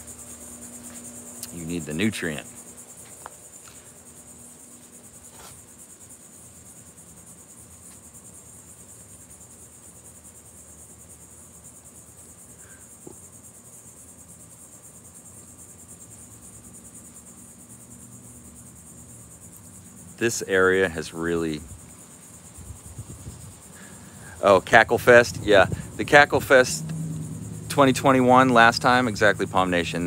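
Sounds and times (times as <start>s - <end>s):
high-pitched insect trilling: 0.0s - 30.0s.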